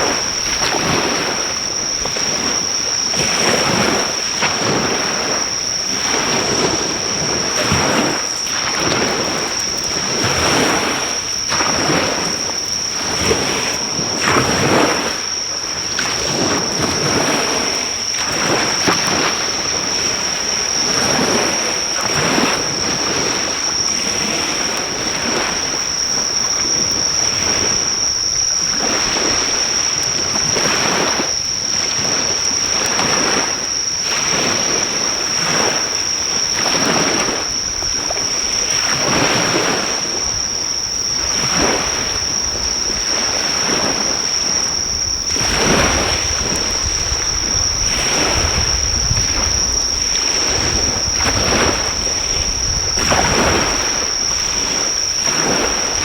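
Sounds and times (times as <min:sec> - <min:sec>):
high-pitched insect chorus: 0:00.0 - 0:56.0
sea waves washing ashore: 0:00.0 - 0:56.0.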